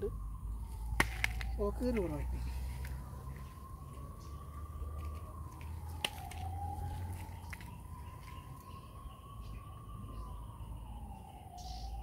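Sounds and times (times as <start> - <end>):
distant siren wailing: 0.0 - 12.0.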